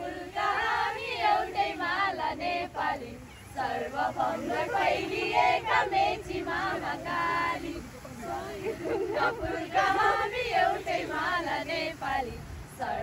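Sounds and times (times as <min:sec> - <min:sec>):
young women singing in unison: 0:00.0 - 0:13.0.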